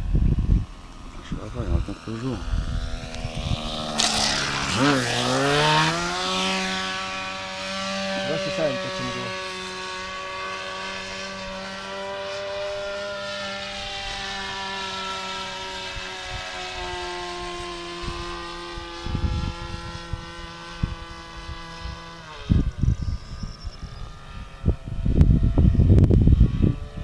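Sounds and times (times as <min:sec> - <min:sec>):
model plane engine droning: 0:00.0 - 0:27.0
wind buffeting microphone: 0:00.0 - 0:27.0.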